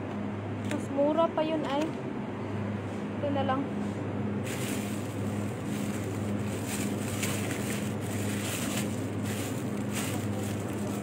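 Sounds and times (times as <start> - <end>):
refrigerated cases humming: 0.0 - 11.0.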